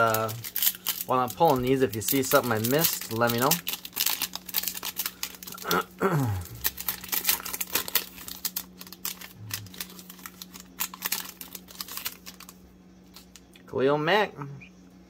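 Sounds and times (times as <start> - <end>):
foil wrapper crinkling: 0.0 - 13.6.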